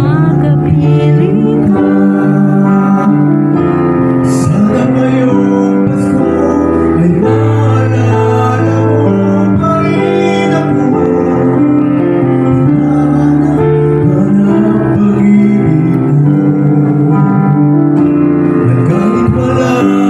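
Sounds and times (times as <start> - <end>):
instrumental accompaniment: 0.0 - 20.0
man singing into a microphone: 0.0 - 20.0.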